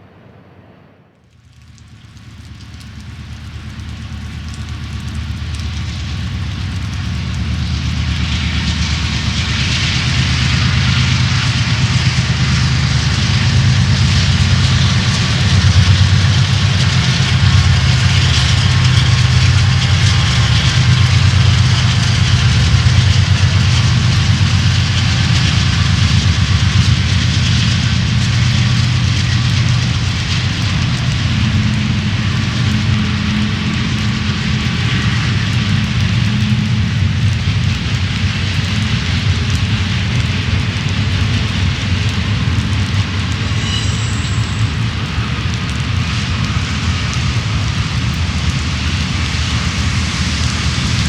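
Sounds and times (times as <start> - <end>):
diesel locomotive engine drone: 0.0 - 51.0.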